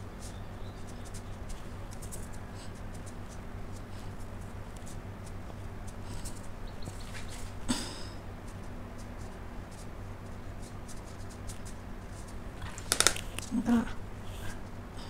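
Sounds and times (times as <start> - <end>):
brush taps and scratches: 0.2 - 7.6, 8.4 - 13.5.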